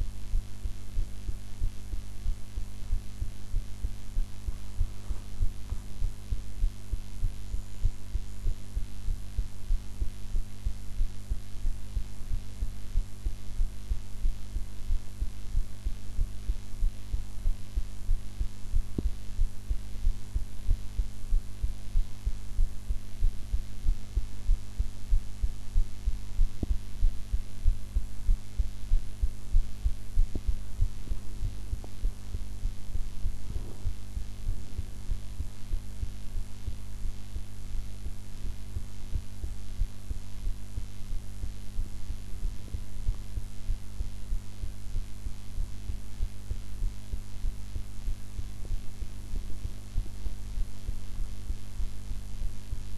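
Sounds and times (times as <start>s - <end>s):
heartbeat: 0.0s - 52.9s
steady low hum: 0.0s - 52.9s.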